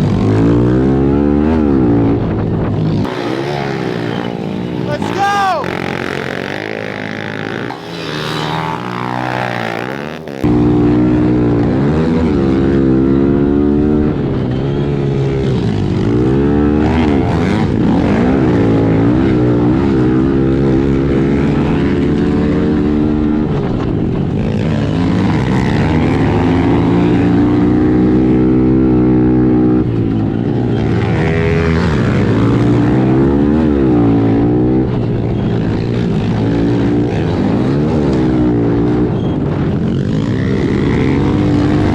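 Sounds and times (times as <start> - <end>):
pit bike engines revving: 0.0 - 23.6, 24.3 - 41.9.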